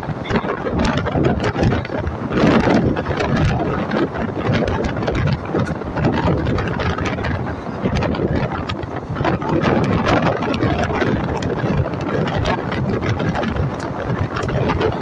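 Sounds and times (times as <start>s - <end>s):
train wheels rumbling on rails: 0.0s - 15.0s
clicks and rattles: 0.2s - 15.0s.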